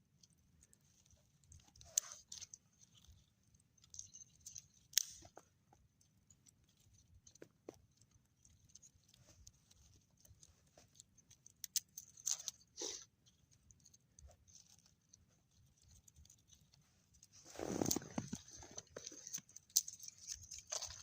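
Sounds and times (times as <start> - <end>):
faint clicks and rustling: 0.0 - 21.0.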